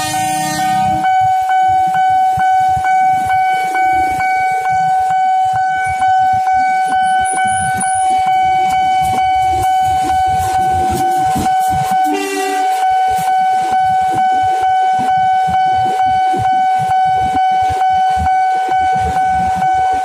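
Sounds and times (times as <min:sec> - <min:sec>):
electric train passing: 0:00.0 - 0:20.0
level crossing warning bell: 0:00.0 - 0:20.0.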